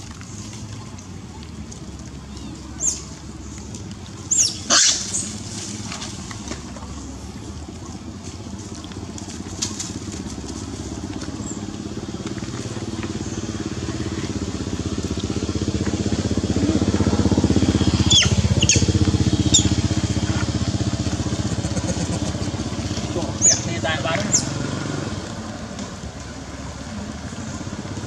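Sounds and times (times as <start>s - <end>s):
motorcycle engine running: 4.7s - 28.0s.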